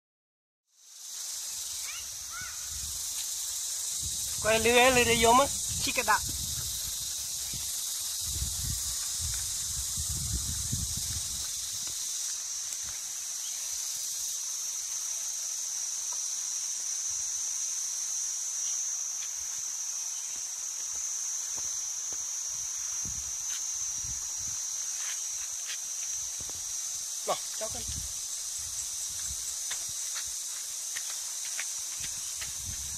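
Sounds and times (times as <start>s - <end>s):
cicadas droning: 0.7s - 32.9s
falling water hiss: 0.8s - 32.9s.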